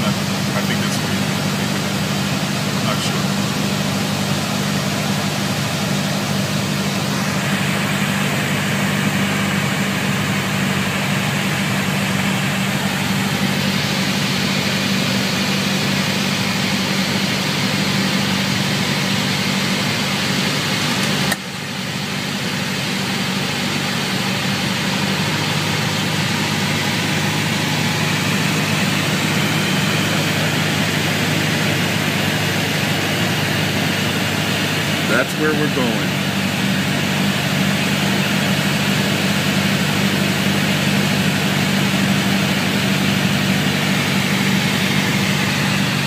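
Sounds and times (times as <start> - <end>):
airplane engine and propeller droning: 0.0 - 46.0.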